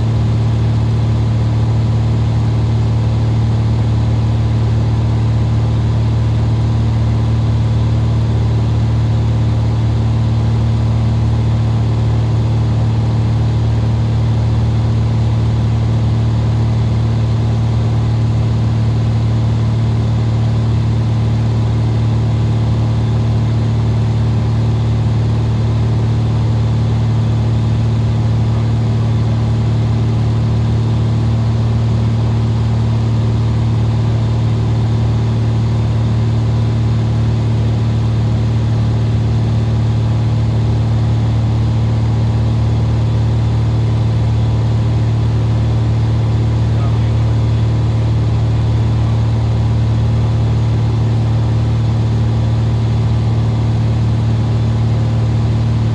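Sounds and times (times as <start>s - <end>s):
airplane engine and propeller drone: 0.0s - 55.9s.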